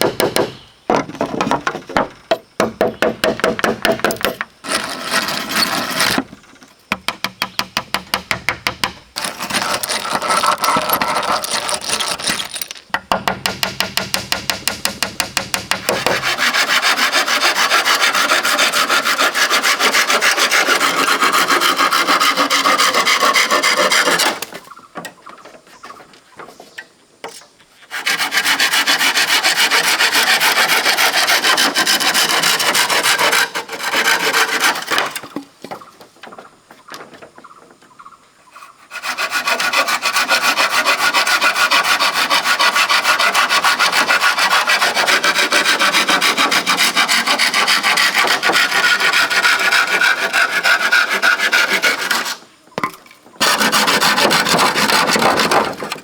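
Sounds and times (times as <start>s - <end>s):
hand tool rasping wood: 0.0s - 25.4s, 27.8s - 35.5s, 38.5s - 56.0s.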